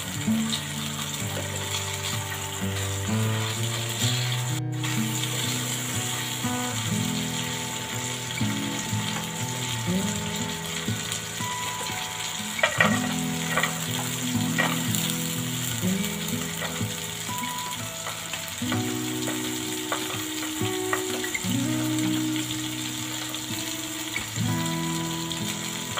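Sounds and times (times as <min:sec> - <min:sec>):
fish frying in hot oil: 0:00.0 - 0:25.9
soft background music: 0:00.0 - 0:25.9.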